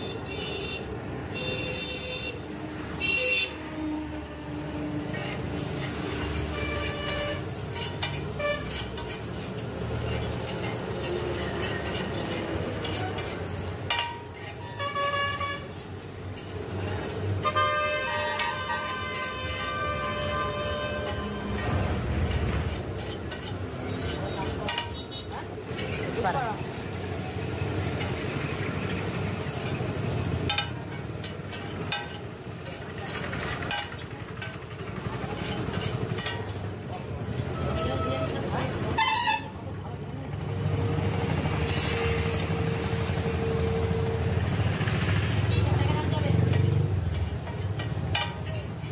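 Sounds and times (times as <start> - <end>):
street traffic hum: 0.0 - 48.9
metal spatula scraping griddle: 3.8 - 39.6, 41.2 - 44.7, 45.6 - 48.9.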